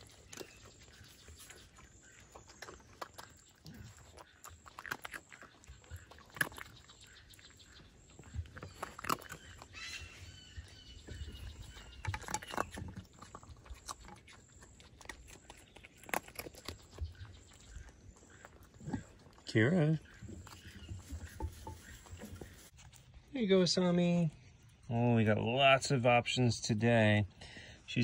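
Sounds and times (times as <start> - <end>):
foxes chewing and crunching food: 0.0 - 28.0.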